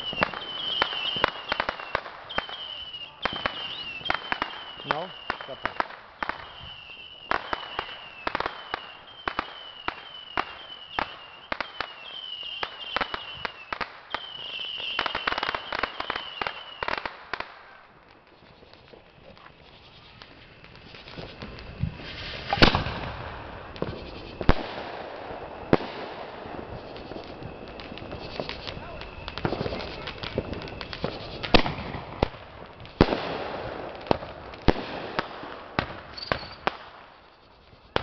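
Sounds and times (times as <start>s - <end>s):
firework pops and crackling: 0.0s - 38.0s
firework whistles: 0.0s - 38.0s.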